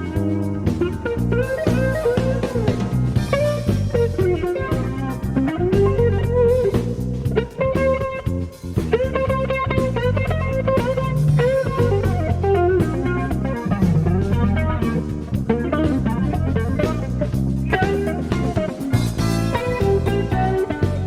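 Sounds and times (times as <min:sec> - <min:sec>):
bass guitar: 0:00.0 - 0:21.0
drum kit: 0:00.0 - 0:21.0
electric guitar solo: 0:00.0 - 0:21.0.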